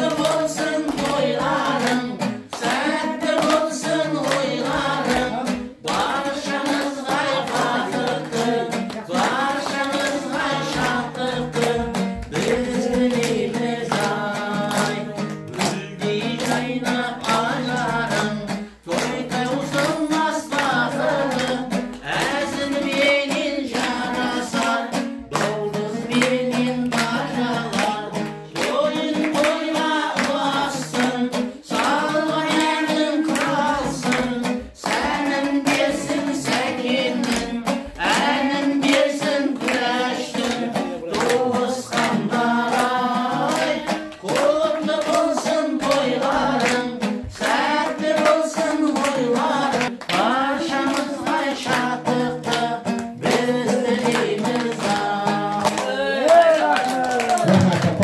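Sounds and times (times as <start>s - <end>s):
people clapping along: 0.0s - 58.0s
person singing: 0.0s - 58.0s.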